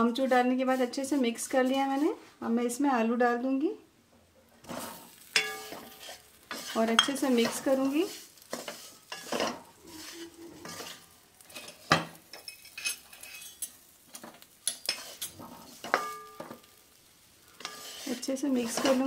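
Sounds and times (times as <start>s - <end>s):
wooden spatula scraping metal pan: 0.0s - 2.2s, 4.6s - 19.0s.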